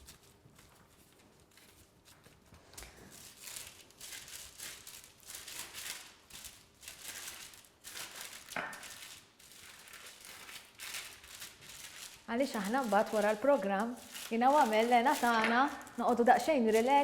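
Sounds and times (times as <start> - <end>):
crinkling and rustling: 0.0 - 17.0.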